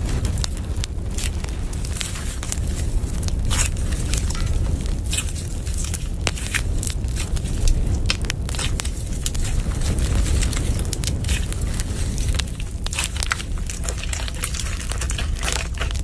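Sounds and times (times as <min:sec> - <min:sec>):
slime crunching and popping: 0:00.0 - 0:16.0
steady low hum: 0:00.0 - 0:16.0.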